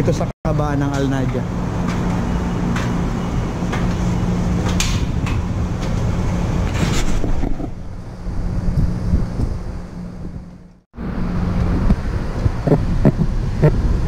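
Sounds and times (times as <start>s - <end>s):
machinery humming: 0.0s - 14.0s
street noise: 0.0s - 14.0s.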